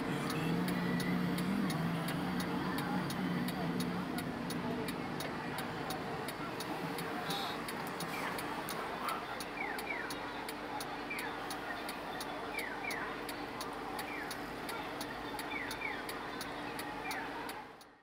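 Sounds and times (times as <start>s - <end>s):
fast ticking: 0.0s - 17.2s
street traffic hum: 0.0s - 18.0s.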